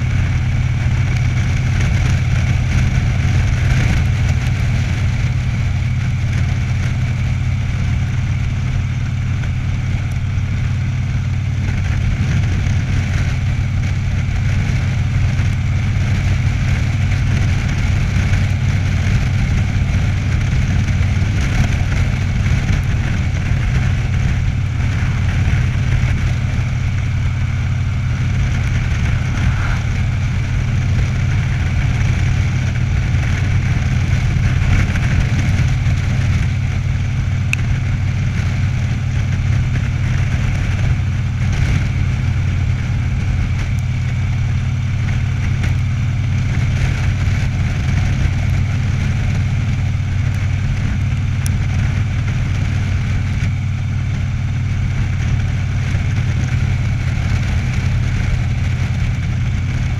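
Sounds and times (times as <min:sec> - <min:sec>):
motorcycle engine running: 0:00.0 - 0:59.9
wind and road rush: 0:00.0 - 0:59.9.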